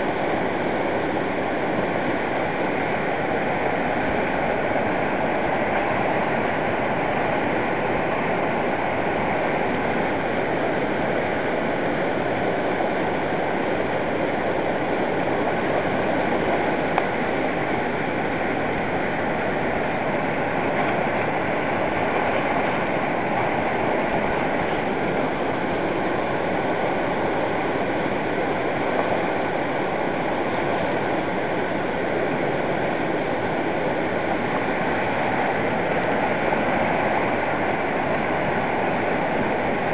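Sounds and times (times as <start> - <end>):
whitewater rapid rushing: 0.0 - 39.9.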